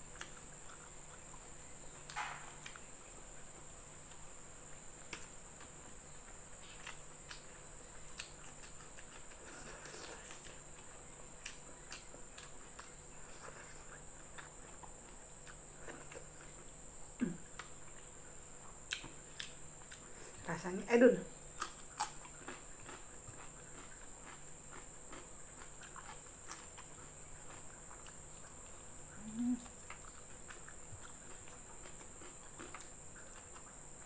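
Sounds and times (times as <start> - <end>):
soft chewing: 0.0 - 20.7, 21.3 - 34.0.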